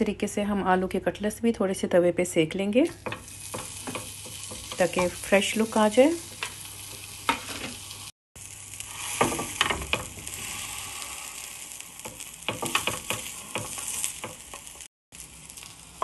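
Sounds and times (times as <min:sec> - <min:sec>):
cutlets sizzling on griddle: 0:03.1 - 0:16.0.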